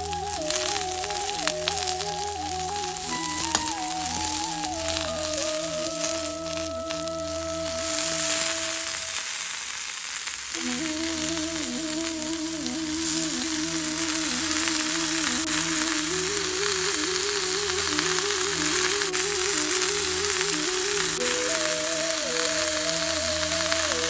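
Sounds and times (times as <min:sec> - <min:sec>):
soft background music: 0:00.0 - 0:09.3, 0:10.6 - 0:24.0
onions sizzling in hot oil: 0:00.0 - 0:24.0.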